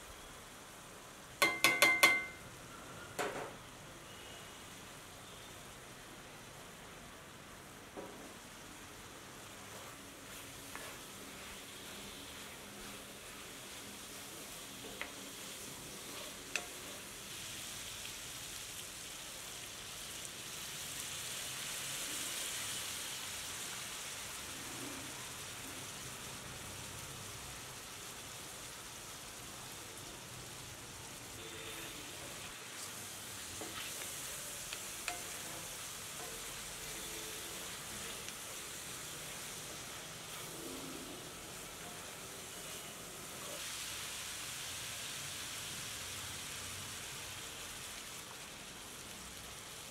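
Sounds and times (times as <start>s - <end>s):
meat sizzling in oil: 7.6s - 49.9s.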